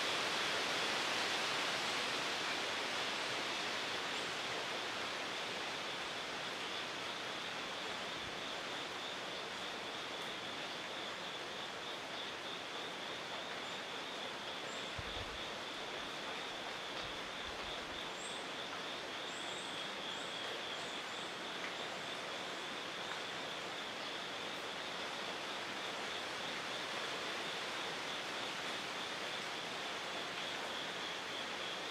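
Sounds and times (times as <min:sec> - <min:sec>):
background hiss: 0:00.0 - 0:31.9.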